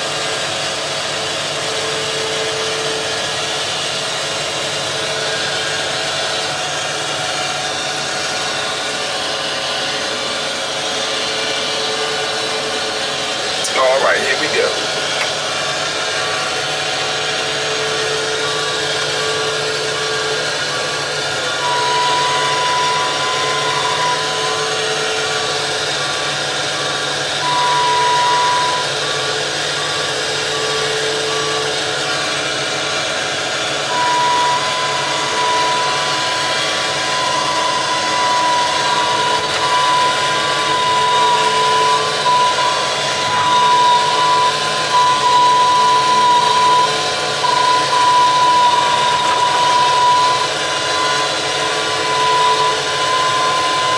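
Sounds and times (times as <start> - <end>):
crane engine running: 0.0 - 53.9
steady beeping alarm: 0.0 - 53.9
high whine: 8.0 - 53.9.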